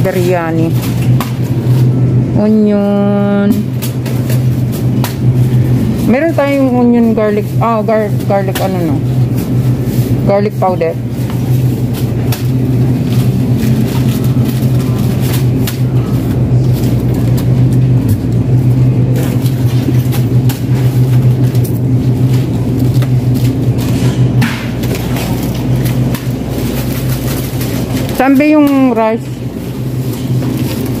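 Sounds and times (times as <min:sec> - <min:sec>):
shopping cart wheels rumbling: 0:00.0 - 0:31.0.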